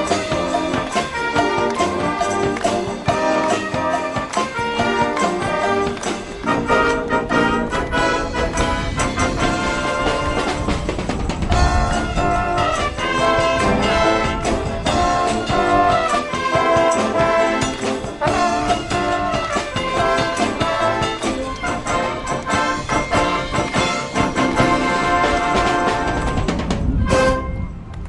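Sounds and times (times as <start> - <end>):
steady drum beat: 0.0 - 27.4
brass marching band: 0.0 - 27.9.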